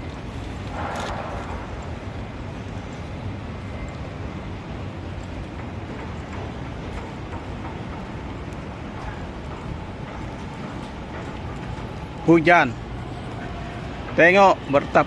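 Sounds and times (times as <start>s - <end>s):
city background rumble: 0.0s - 15.0s.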